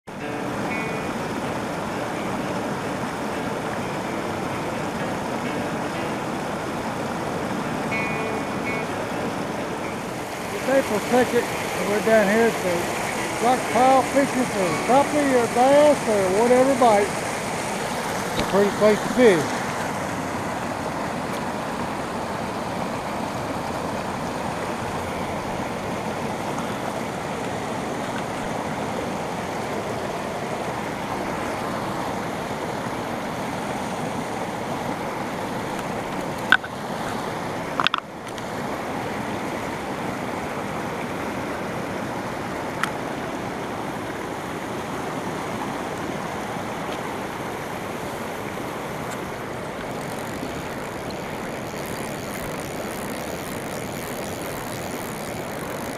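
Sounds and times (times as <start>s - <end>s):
river water rushing over rocks: 0.1s - 55.9s.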